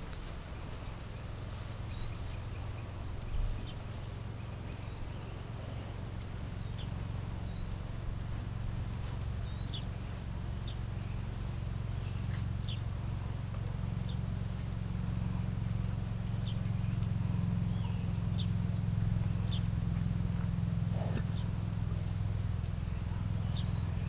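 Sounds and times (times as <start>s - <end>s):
hoof steps on dirt: 0.0s - 22.9s
small birds chirping: 0.0s - 24.0s
steady low rumble: 0.0s - 24.0s.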